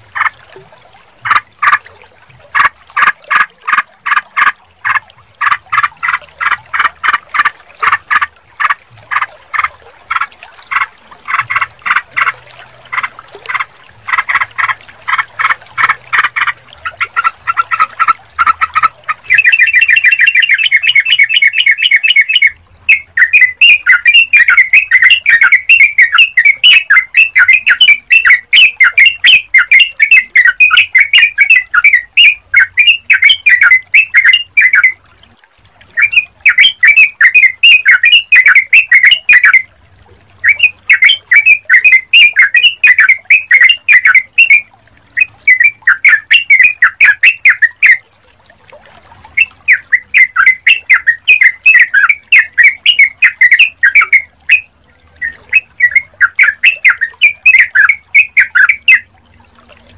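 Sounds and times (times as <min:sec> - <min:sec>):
bird singing bubbling notes: 0:00.0 - 0:35.2, 0:35.8 - 0:48.2, 0:49.2 - 0:59.9.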